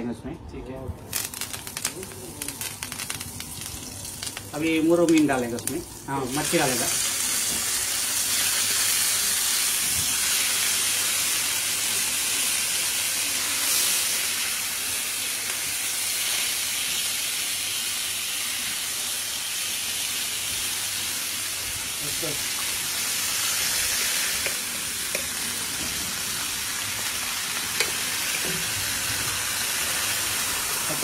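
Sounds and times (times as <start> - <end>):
fish sizzling in oil: 1.1 - 31.0.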